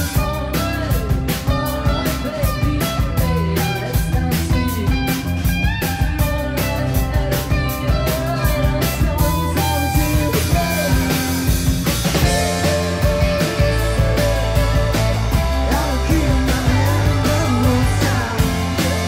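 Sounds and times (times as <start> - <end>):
bass: 0.0 - 19.0
drum kit beat: 0.0 - 19.0
electric guitars: 0.0 - 19.0
rock band playing: 0.0 - 19.0.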